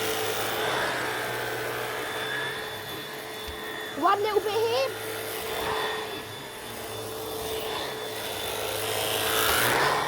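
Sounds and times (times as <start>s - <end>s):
vacuum cleaner running on carpet: 0.0s - 10.0s.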